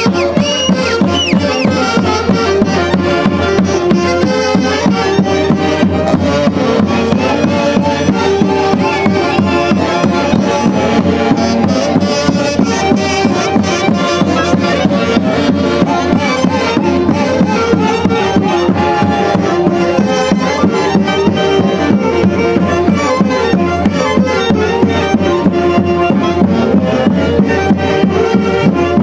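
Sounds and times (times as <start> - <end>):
folk ensemble playing dance tune: 0.0 - 29.0.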